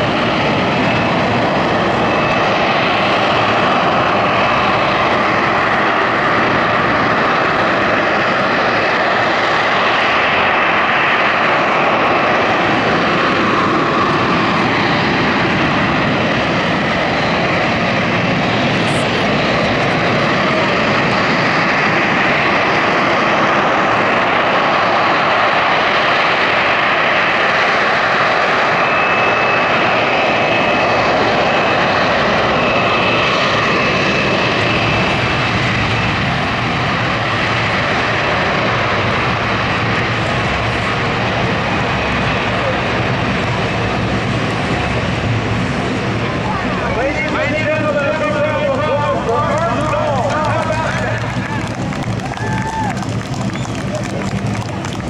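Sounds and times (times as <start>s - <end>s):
aircraft engine noise: 0.0s - 55.0s.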